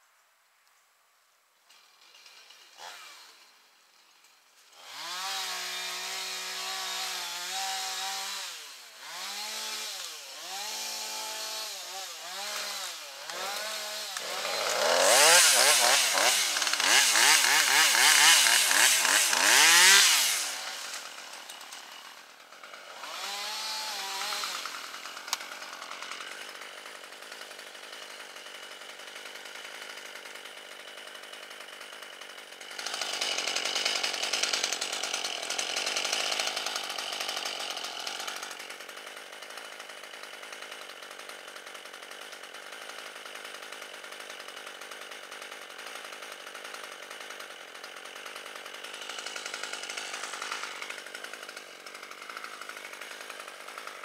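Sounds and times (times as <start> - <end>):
chainsaw idling and revving: 1.7 - 54.0.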